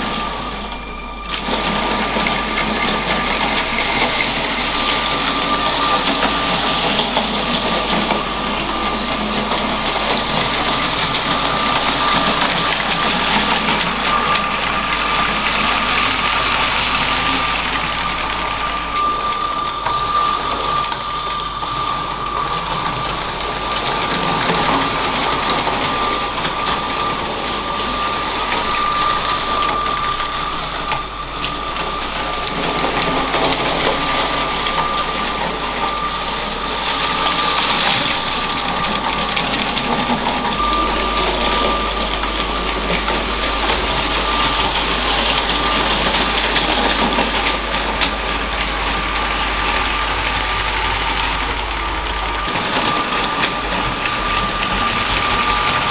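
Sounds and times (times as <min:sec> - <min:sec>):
toy train motor whining: 0:00.0 - 0:55.9
wheels clattering on plastic track: 0:00.0 - 0:55.9.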